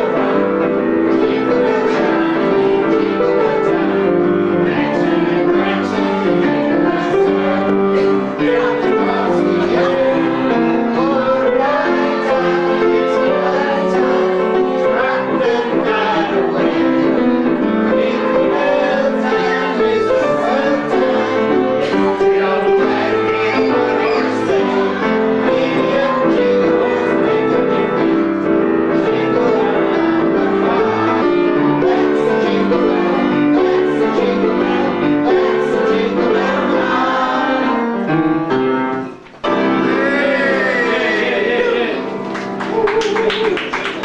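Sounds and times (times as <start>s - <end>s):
group of voices singing: 0.0s - 38.2s, 39.0s - 44.0s
piano playing carol: 0.0s - 44.0s.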